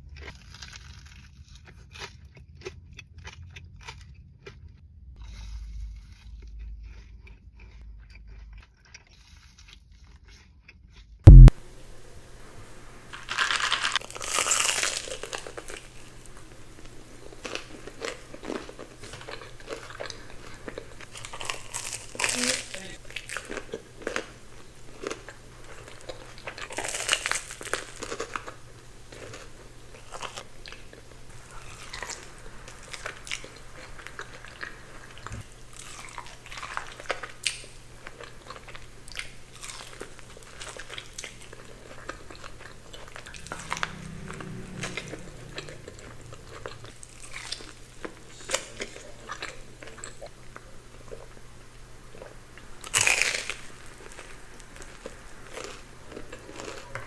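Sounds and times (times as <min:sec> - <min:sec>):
crunchy biting: 0:00.0 - 0:11.5, 0:13.1 - 0:51.4, 0:52.1 - 0:57.0
wet chewing: 0:00.0 - 0:11.5, 0:13.1 - 0:57.0.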